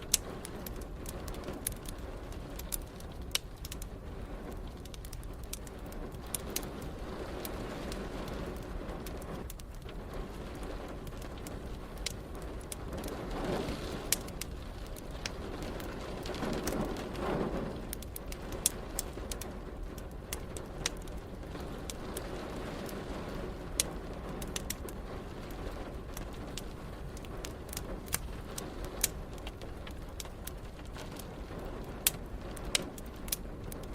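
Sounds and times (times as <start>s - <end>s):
rain: 0.0s - 33.9s
wood fire crackling: 0.0s - 33.9s.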